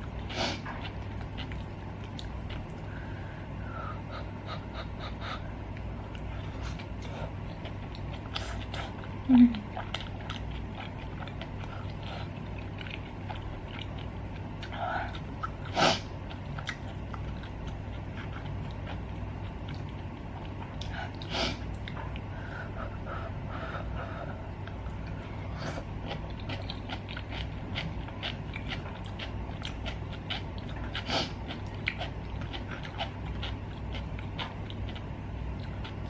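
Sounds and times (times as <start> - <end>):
wet chewing and mouth clicks: 0.0 - 2.9, 5.7 - 22.3, 24.6 - 36.0
steady low hum: 0.0 - 36.0.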